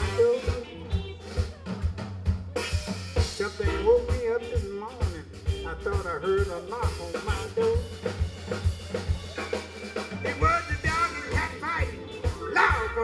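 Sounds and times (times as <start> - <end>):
drum kit beat: 0.0 - 13.0
live band playing: 0.0 - 13.0.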